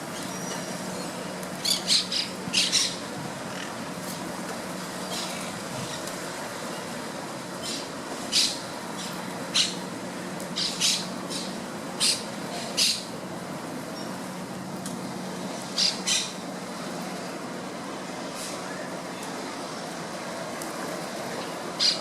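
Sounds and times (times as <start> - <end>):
background hiss and low hum: 0.0 - 22.0.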